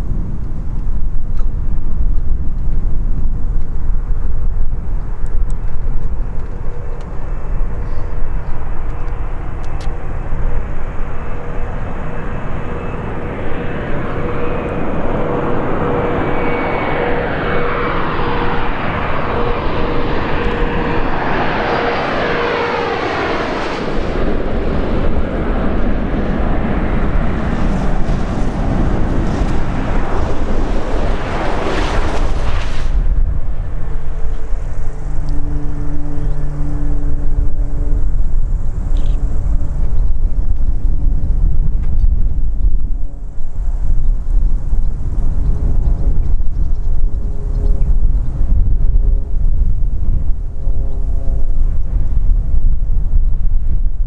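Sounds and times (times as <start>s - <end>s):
jet plane flying over: 0.0s - 54.0s
wind buffeting microphone: 0.0s - 54.0s.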